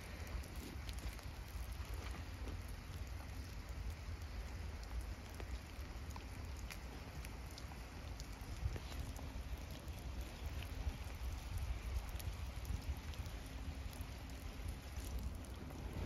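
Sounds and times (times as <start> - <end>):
constant low rumble: 0.0 - 16.0
rain falling: 0.0 - 16.0.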